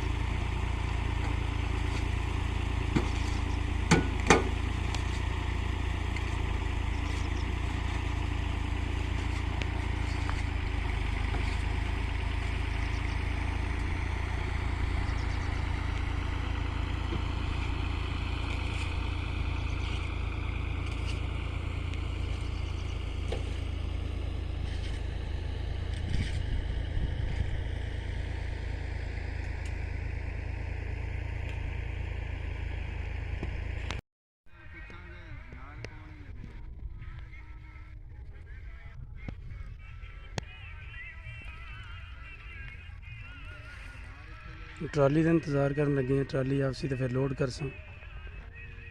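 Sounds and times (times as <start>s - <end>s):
engine humming: 0.0s - 48.9s.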